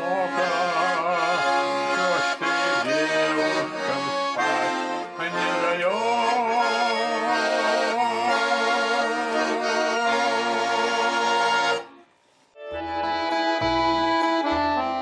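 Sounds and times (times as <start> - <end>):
accordion chords: 0.0 - 15.0.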